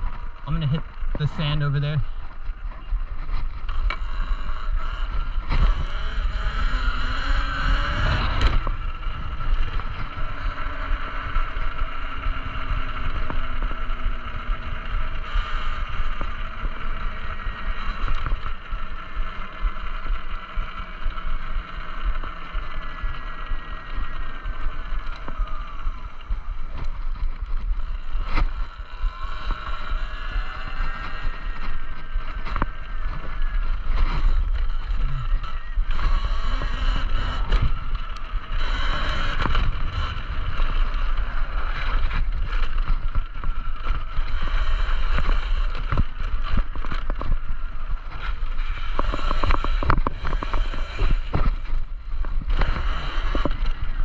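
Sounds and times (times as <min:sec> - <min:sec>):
electric motor whining: 0:00.0 - 0:54.0
wind rumbling on microphone: 0:00.0 - 0:54.0.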